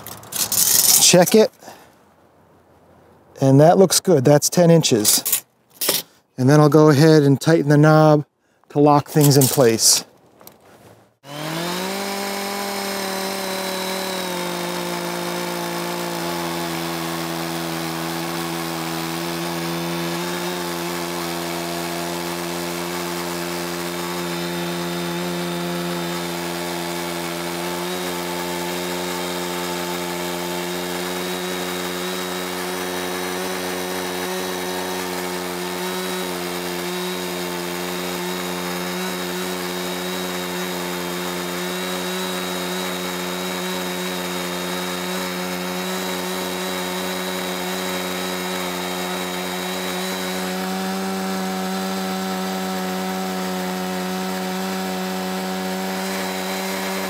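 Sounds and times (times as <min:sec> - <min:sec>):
chainsaw cutting log: 0:00.0 - 0:01.8, 0:04.8 - 0:06.9, 0:08.9 - 0:10.6, 0:11.2 - 0:57.0.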